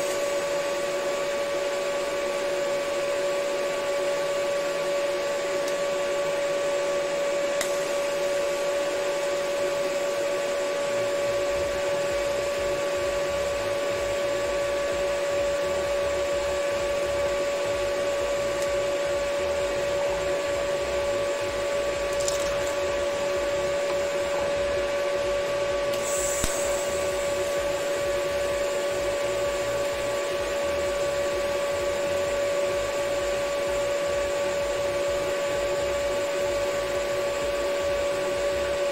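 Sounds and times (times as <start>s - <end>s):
welding machine hum: 0.0s - 38.9s.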